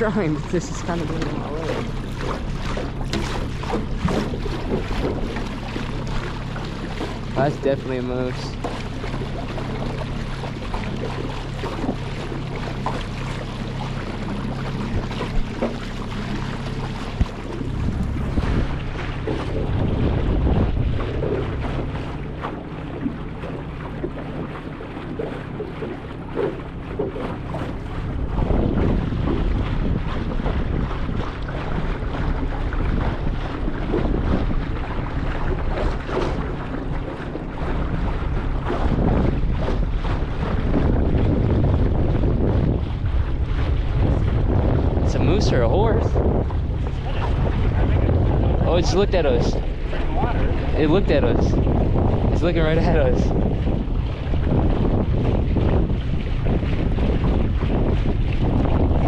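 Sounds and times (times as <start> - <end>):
outboard motor running: 0.0 - 59.0
wind and water rushing: 0.0 - 59.0.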